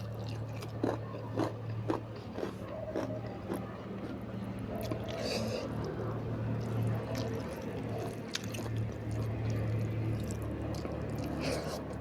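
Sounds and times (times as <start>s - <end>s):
wet chewing sounds: 0.0s - 12.0s.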